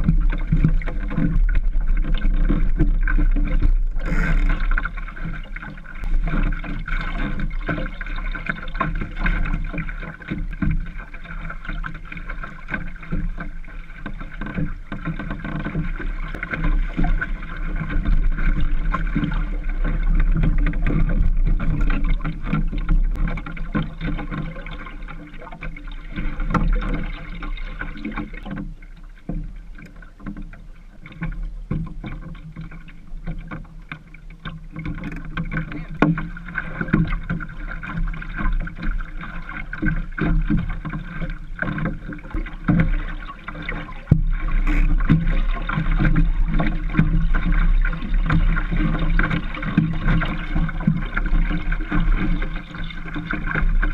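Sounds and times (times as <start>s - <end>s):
water lapping against hull: 0.0s - 53.9s.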